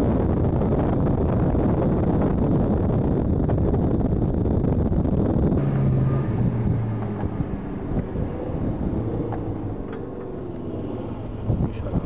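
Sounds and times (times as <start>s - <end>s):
vehicle engine drone: 0.0s - 12.0s
wind buffeting microphone: 0.0s - 12.0s.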